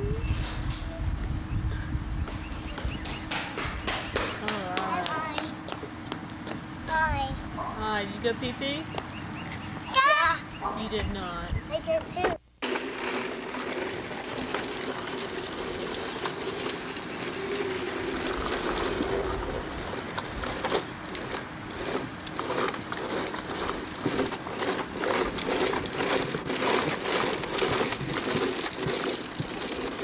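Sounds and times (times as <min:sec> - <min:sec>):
plastic wheels rolling on concrete: 0:02.2 - 0:30.0.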